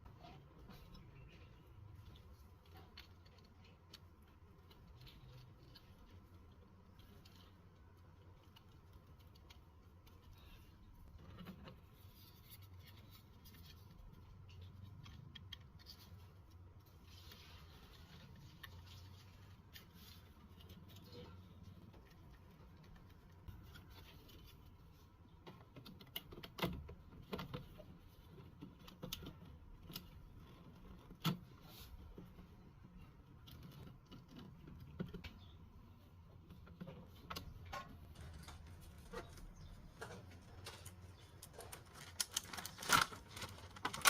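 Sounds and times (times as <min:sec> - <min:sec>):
faint light clicks and scratches: 0:00.0 - 0:44.0.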